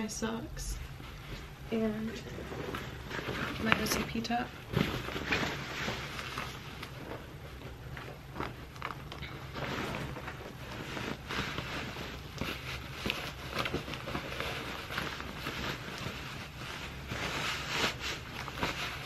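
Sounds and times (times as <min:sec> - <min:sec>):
uniform fabric rustling: 0:00.0 - 0:19.0.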